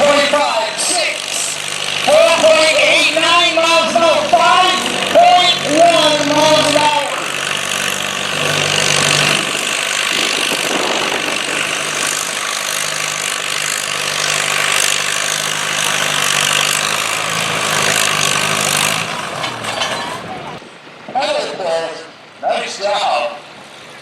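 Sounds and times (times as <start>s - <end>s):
tractor engine under load: 0.0s - 20.6s.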